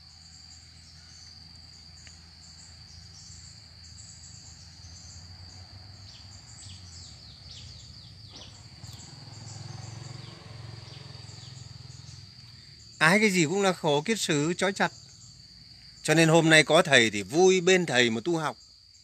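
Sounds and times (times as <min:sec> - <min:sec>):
bird chirping: 0:00.0 - 0:19.0
high-pitched insect trill: 0:00.0 - 0:19.0.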